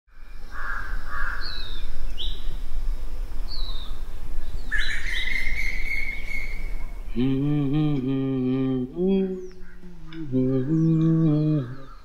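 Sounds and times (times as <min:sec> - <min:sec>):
steady low rumble: 0:00.2 - 0:11.9
birds calling: 0:00.4 - 0:02.6, 0:03.5 - 0:12.0.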